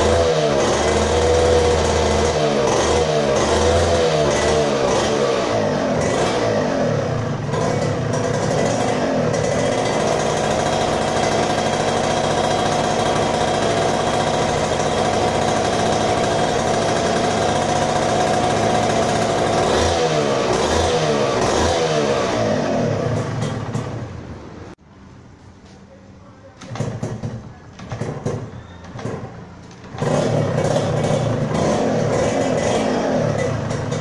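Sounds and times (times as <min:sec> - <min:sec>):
two-stroke engine revving: 0:00.0 - 0:24.7, 0:26.7 - 0:34.0.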